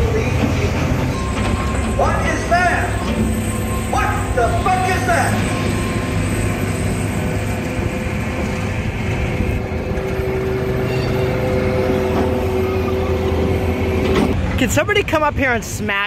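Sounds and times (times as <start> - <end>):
locomotive engine rumble: 0.0 - 16.0.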